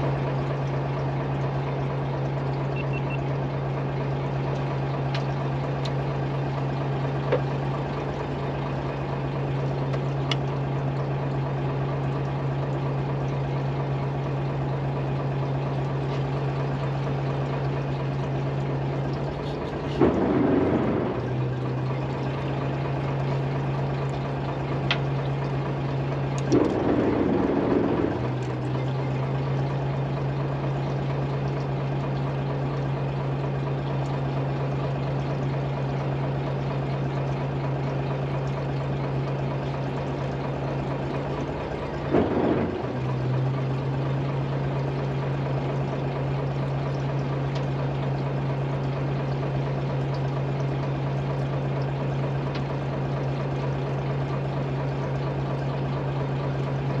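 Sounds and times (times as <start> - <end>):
boat engine hum: 0.0 - 57.0
rushing water: 0.0 - 57.0.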